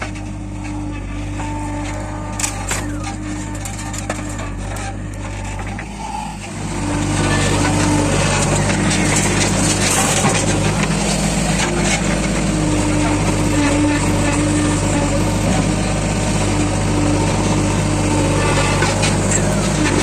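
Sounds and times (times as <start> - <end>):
diesel engines running: 0.0 - 20.0.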